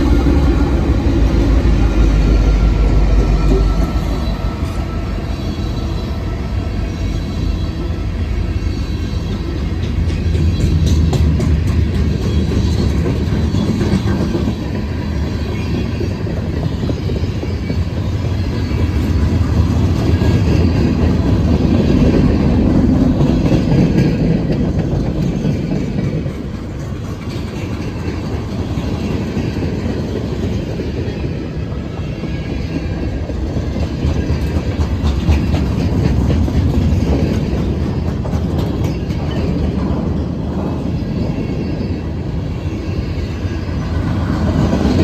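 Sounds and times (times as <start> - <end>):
freight train rumbling past: 0.0 - 45.0
train wheels clicking: 0.0 - 45.0.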